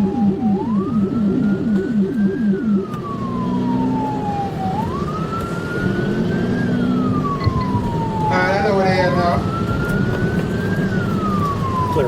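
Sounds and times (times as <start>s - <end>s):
fast warbling siren tone: 0.0s - 12.0s
police siren wailing: 0.0s - 12.0s.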